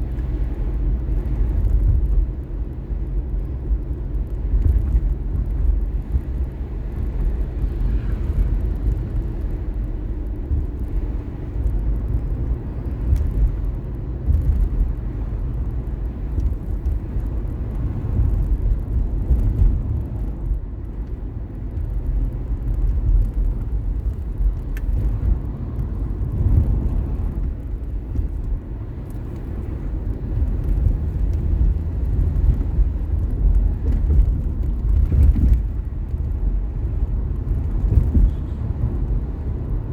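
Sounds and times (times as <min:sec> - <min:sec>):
car driving rumble from inside: 0:00.0 - 0:39.9.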